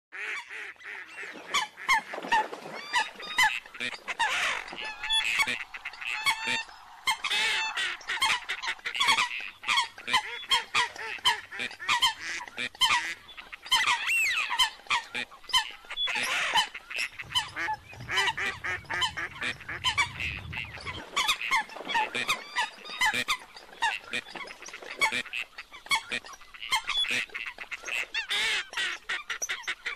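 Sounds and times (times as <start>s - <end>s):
flock of waterbirds calling: 0.2s - 29.9s.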